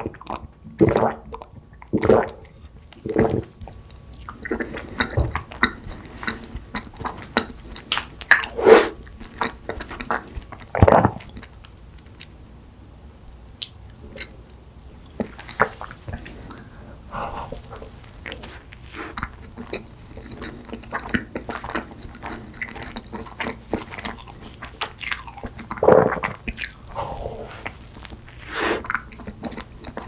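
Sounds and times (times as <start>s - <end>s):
chewing soft cake: 0.0s - 30.0s.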